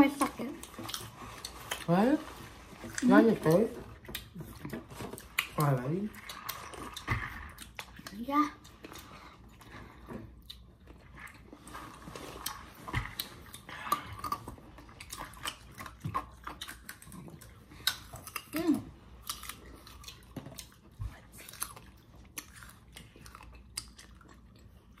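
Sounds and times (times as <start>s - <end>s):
people crunching apples: 0.0s - 25.0s.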